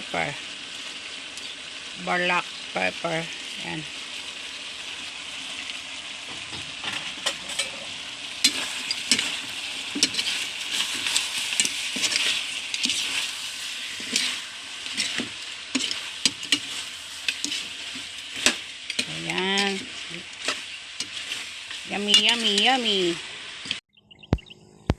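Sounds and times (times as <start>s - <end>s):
food sizzling in a frying pan: 0.0s - 23.8s
utensil scraping a pan: 2.2s - 23.8s.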